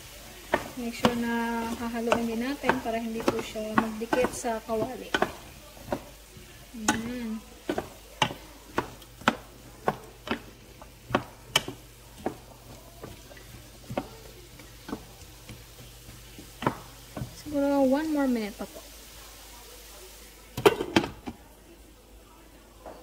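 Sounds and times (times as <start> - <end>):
wooden spatula scraping frying pan: 0.0 - 18.6
faint sizzle: 0.0 - 23.0.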